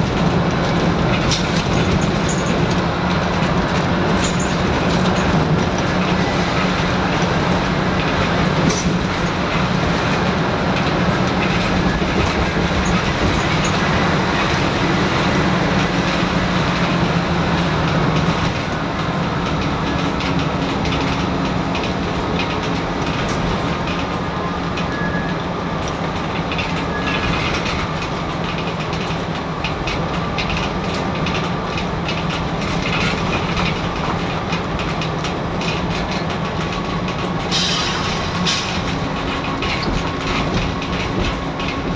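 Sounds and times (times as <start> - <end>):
bus diesel engine drone: 0.0 - 41.9
road noise: 0.0 - 41.9
seats and fittings rattling: 0.1 - 24.9, 25.8 - 41.9.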